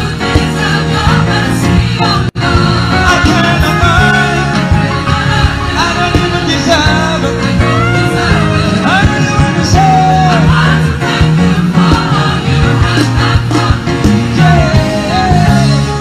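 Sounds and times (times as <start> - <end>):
band playing: 0.0 - 16.0
electric bass line: 0.0 - 16.0
group of singers: 0.0 - 16.0.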